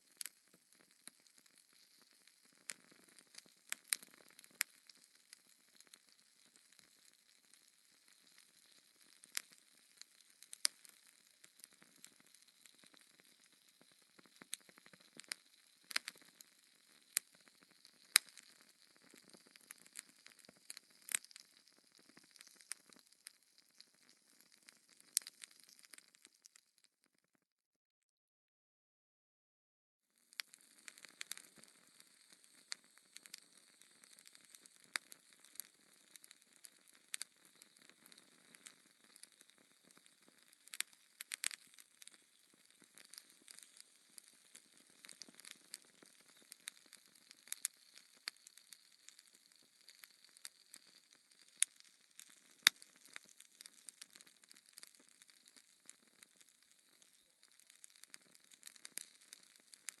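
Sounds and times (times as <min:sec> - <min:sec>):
wood fire crackling: 0:00.0 - 0:26.8, 0:30.3 - 1:00.0.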